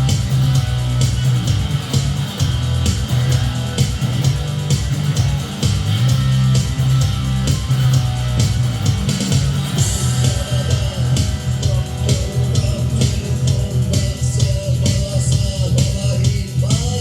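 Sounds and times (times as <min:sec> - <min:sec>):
electric guitar through amp: 0:00.0 - 0:17.0
rock backing track with drums: 0:00.0 - 0:17.0.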